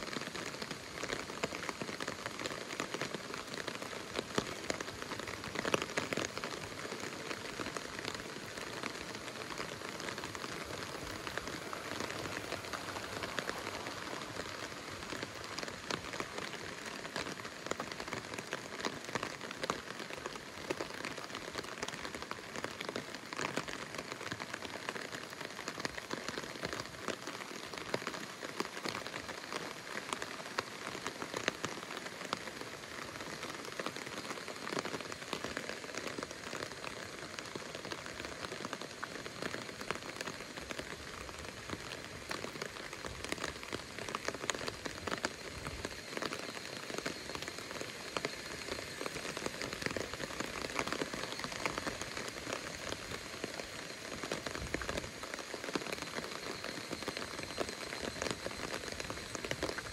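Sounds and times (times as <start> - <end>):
rain drops on hard surfaces: 0.0 - 59.9.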